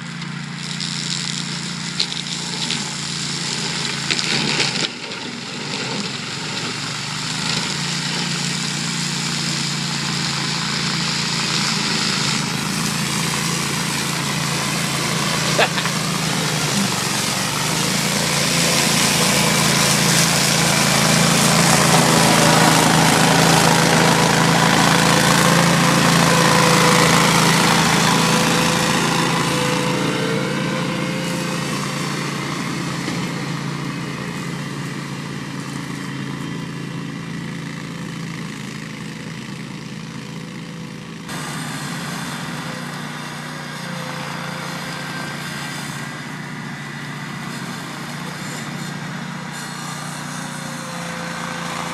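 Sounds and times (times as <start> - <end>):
mower deck whirring: 0.0 - 51.9
tractor engine running under load: 0.0 - 51.9.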